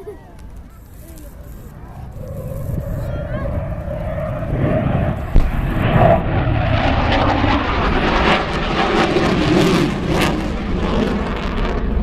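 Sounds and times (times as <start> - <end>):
jet engines passing: 0.0 - 12.0.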